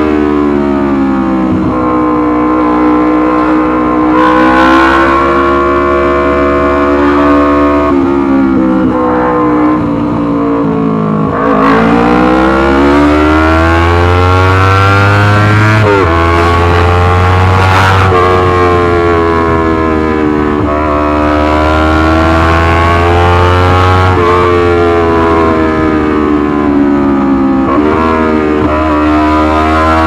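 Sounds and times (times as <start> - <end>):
motorcycle engine revving loudly: 0.0 - 30.0.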